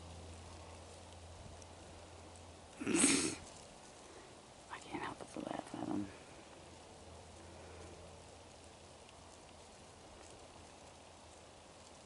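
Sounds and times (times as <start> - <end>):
faint low hum: 0.0 - 12.0
soft hiss: 0.0 - 12.0.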